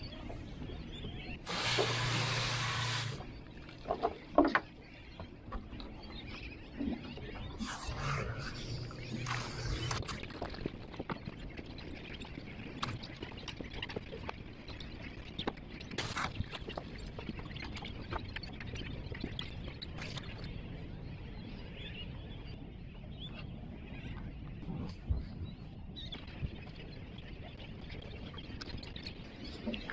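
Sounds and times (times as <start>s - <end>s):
seabirds calling: 0.0s - 24.6s.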